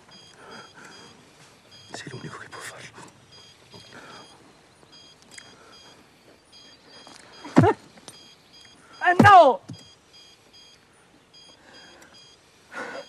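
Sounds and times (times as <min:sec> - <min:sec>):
ventilator alarm beeping: 0:00.0 - 0:13.0.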